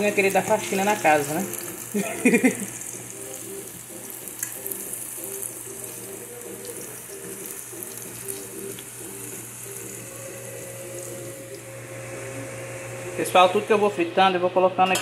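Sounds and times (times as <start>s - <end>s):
deep-frying sizzle in hot oil: 0.0s - 14.0s.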